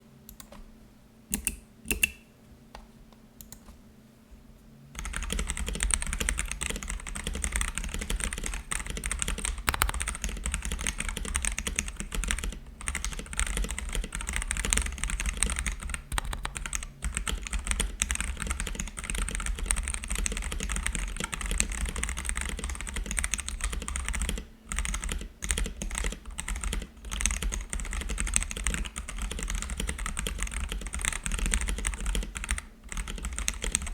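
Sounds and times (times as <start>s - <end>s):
mechanical keyboard typing: 1.3s - 2.2s, 5.0s - 33.9s.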